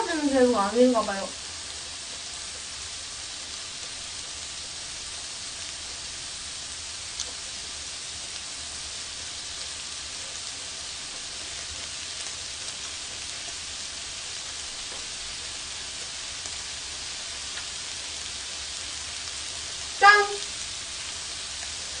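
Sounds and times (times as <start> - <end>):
food sizzling on grill plate: 0.0 - 22.0.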